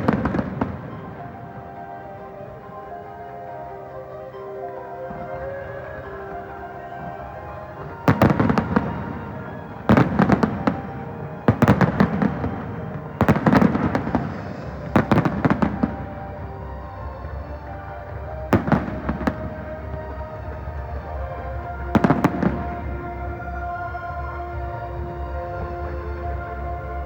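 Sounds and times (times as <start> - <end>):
fireworks banging and crackling: 0.0 - 3.4, 5.0 - 27.0
music playing: 0.0 - 27.0.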